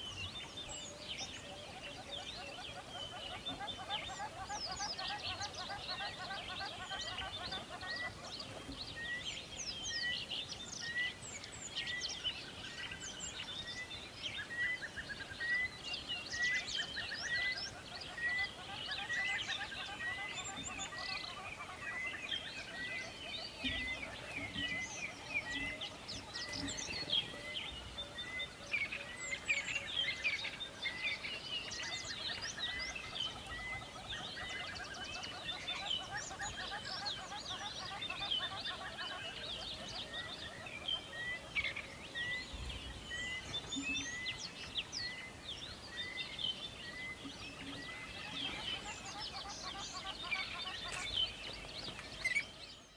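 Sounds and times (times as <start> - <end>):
birds chirping and trilling: 0.0 - 52.9.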